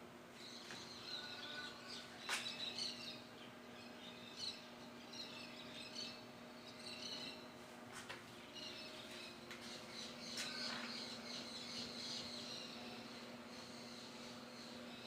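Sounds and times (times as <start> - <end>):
ceiling fan humming: 0.0 - 15.0
small birds chirping: 0.3 - 15.0.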